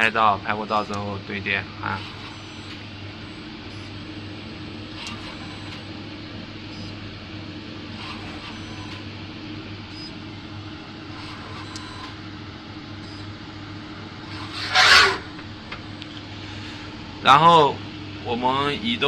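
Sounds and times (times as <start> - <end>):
faint mechanical sounds: 0.0 - 19.0
soldering machine humming: 0.0 - 19.0.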